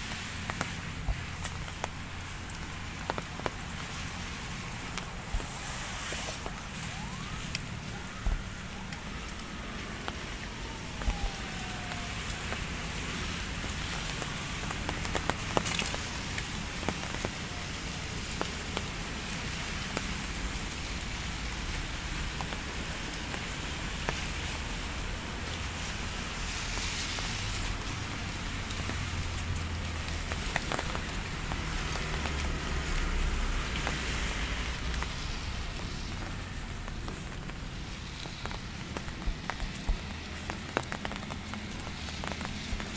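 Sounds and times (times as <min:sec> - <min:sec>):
light rain hissing on leaves: 0:00.0 - 0:42.9.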